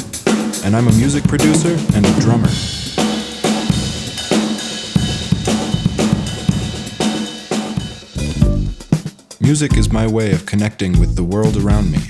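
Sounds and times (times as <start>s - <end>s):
drum kit steady beat: 0.0s - 12.0s.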